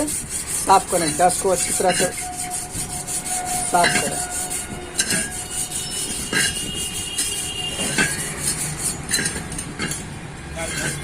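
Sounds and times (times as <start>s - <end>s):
thin high squeal: 0.0s - 9.6s
sandpaper scraping rusty steel: 0.0s - 10.0s, 10.6s - 11.0s.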